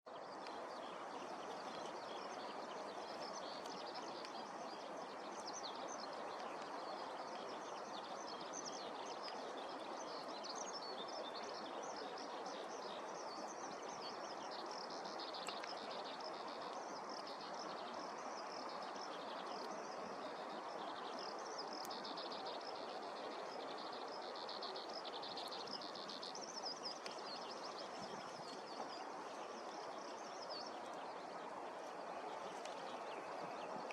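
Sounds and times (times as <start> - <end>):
outdoor background noise: 0.1 - 33.9.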